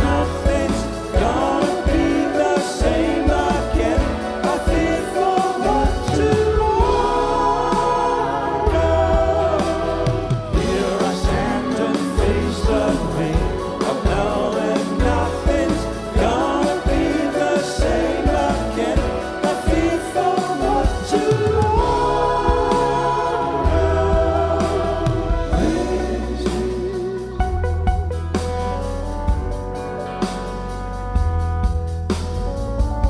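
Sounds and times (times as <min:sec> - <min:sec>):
male lead vocal: 0:00.0 - 0:27.8
deep bass line: 0:00.0 - 0:33.0
keyboards: 0:00.0 - 0:33.0.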